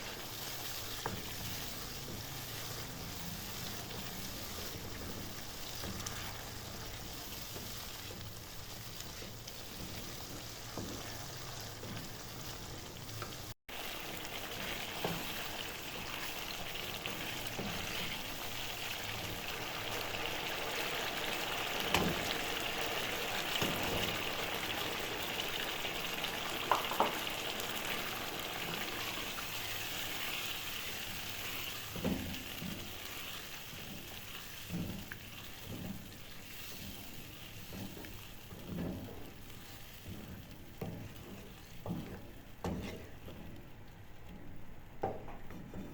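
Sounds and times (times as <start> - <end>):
food sizzling in hot oil: 0.0 - 43.4.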